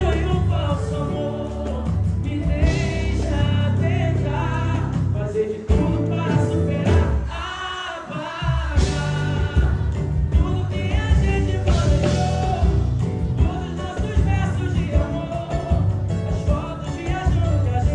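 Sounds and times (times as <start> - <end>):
song with sung vocals and band: 0.0 - 17.9.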